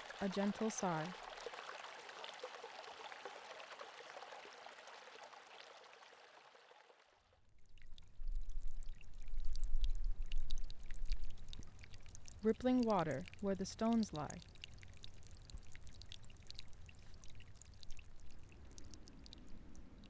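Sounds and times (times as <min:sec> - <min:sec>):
brook running water: 0:00.0 - 0:07.0, 0:07.6 - 0:20.0.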